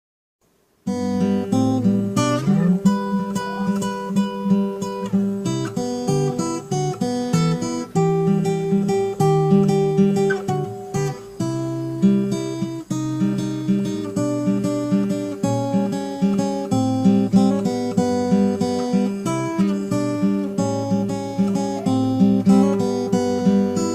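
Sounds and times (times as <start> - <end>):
acoustic guitar picked tune: 0.4 - 23.9.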